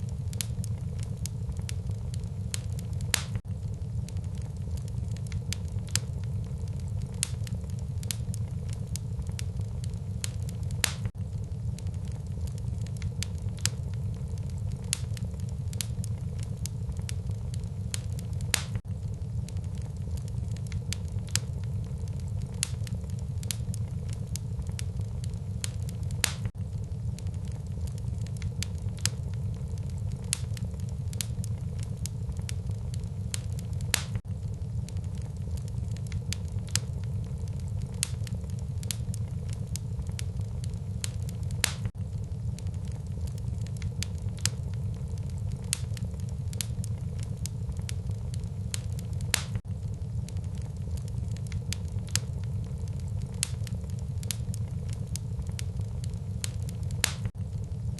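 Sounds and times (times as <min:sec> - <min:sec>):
steady low rumble: 0:00.0 - 0:57.9
wood fire crackling and popping: 0:00.0 - 0:57.9.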